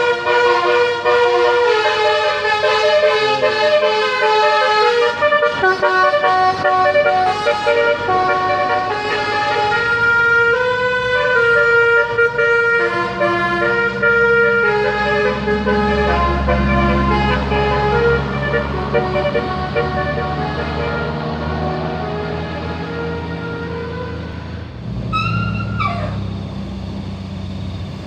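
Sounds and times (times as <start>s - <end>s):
multi-tone bus air horn tune: 0.0s - 26.2s.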